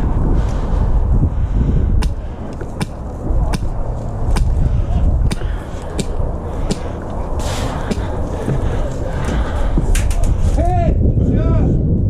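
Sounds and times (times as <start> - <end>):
low wind rumble on microphone: 0.0 - 12.0.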